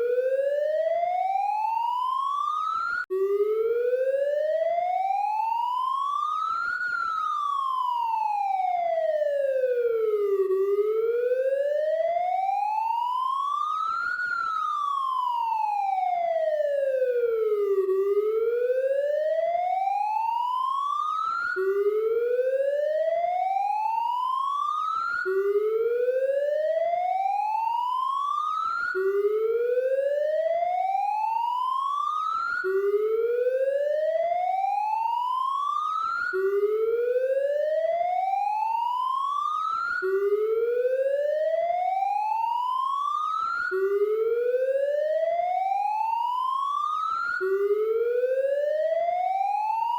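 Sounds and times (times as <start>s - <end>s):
electronic police siren wailing: 0.0s - 49.9s.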